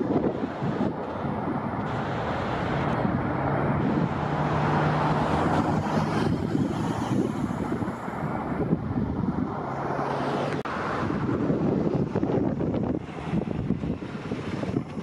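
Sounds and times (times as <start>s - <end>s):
jet engines rumbling: 0.0s - 15.0s
wind on microphone: 0.0s - 15.0s.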